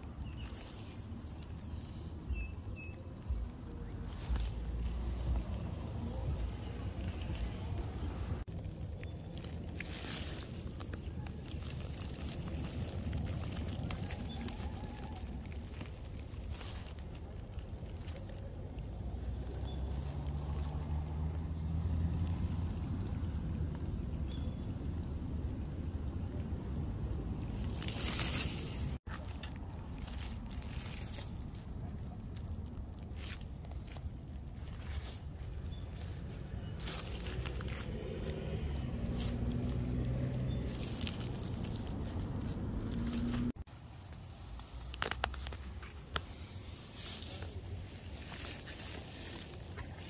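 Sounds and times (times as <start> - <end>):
passing vehicle engine hum: 0.0 - 15.7, 17.1 - 43.7
leaves and stems rustling: 0.0 - 50.0.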